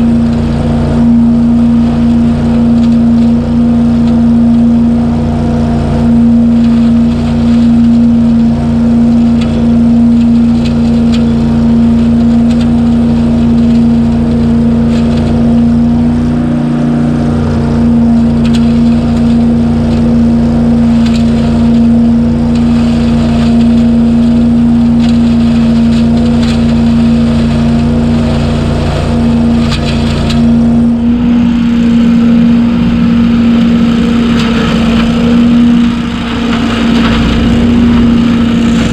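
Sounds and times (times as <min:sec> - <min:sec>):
engine and vacuum fan humming: 0:00.0 - 0:38.9.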